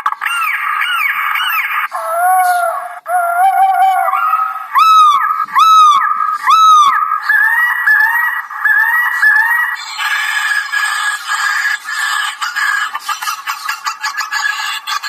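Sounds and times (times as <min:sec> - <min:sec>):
recorded bird cries on loudspeaker: 0:00.0 - 0:15.0.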